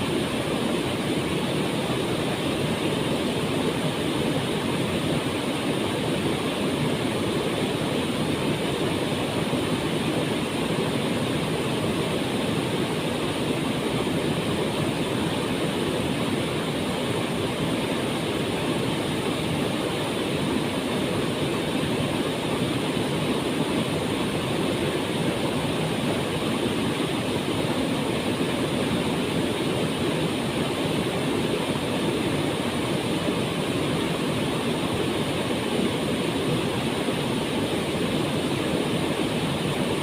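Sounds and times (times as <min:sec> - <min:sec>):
waterfall roaring: 0:00.0 - 0:40.0.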